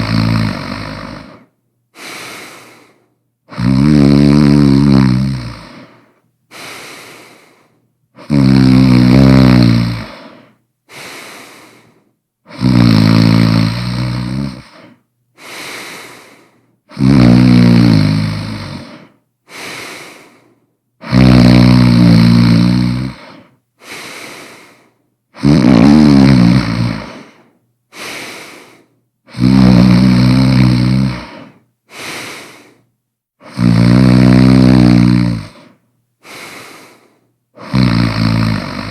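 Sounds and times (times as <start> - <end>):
person snoring loudly: 0.0 - 2.9, 3.5 - 7.5, 8.2 - 11.9, 12.5 - 20.4, 21.0 - 32.8, 33.4 - 38.9.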